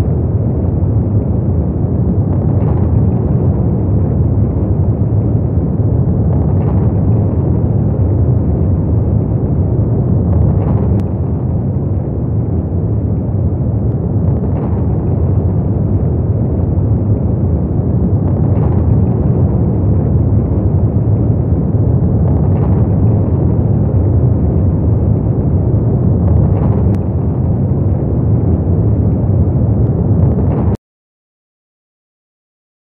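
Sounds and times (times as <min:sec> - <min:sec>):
loud low rumbling drone: 0:00.0 - 0:30.8.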